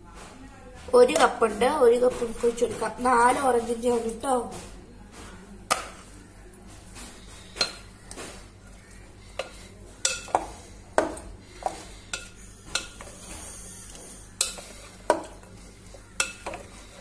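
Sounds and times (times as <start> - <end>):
wooden spoon stirring wet mix: 0.0 - 17.0.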